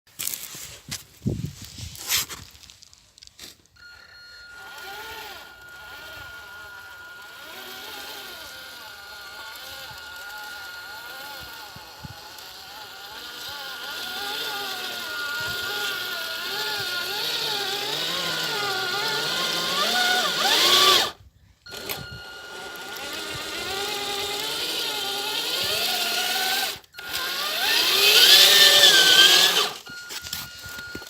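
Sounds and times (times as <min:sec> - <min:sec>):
electric motor whining: 0:03.8 - 0:31.0.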